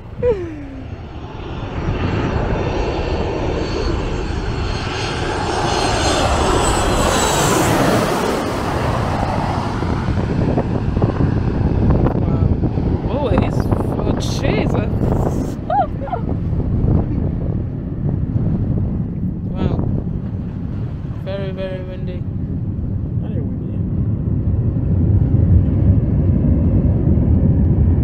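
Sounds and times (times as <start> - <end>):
high jet engine whine: 0.0 - 28.0
jet airliner roaring overhead: 0.0 - 28.0.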